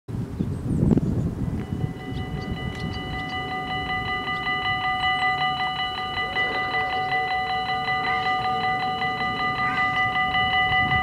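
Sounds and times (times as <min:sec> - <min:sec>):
level crossing warning bells: 0:01.5 - 0:11.0.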